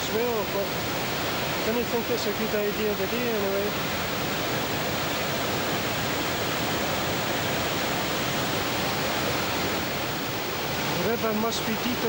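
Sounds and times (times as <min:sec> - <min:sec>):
river rushing over a ledge: 0:00.0 - 0:12.0.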